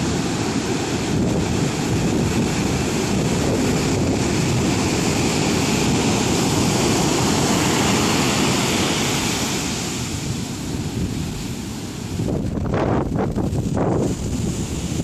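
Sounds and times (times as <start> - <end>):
heavy surf roaring: 0.0 - 15.0
wind buffeting microphone: 0.0 - 15.0.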